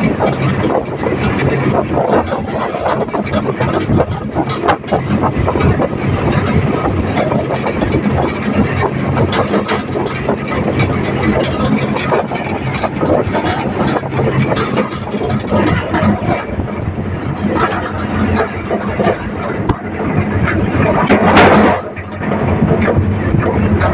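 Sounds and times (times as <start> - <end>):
loose rattling and clatter: 0.0 - 23.9
tractor engine running: 0.0 - 23.9.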